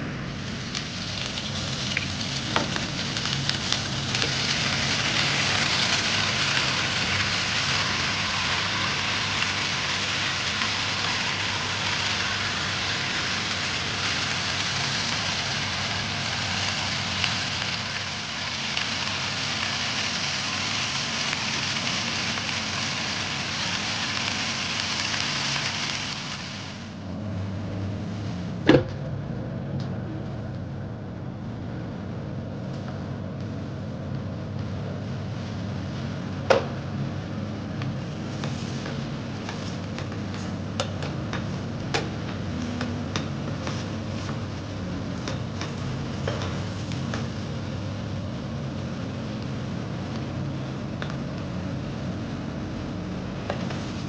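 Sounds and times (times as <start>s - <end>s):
chicken sizzling in oil: 0.0s - 27.0s, 34.8s - 54.0s.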